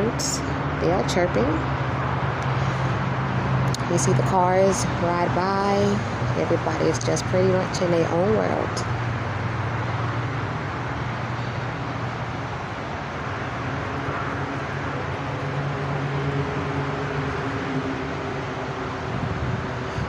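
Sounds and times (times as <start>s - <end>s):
highway traffic: 0.0s - 20.0s
low vehicle engine drone: 0.0s - 20.0s.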